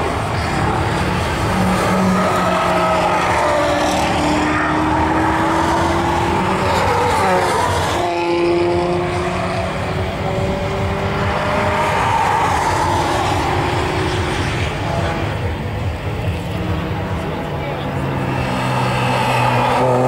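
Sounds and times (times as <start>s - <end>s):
sports car engines accelerating: 0.0s - 20.0s.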